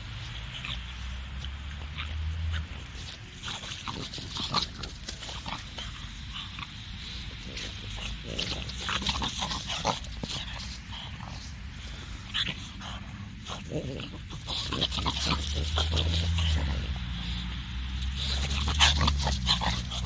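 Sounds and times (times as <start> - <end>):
dog sniffing and snuffling: 0.0 - 20.0.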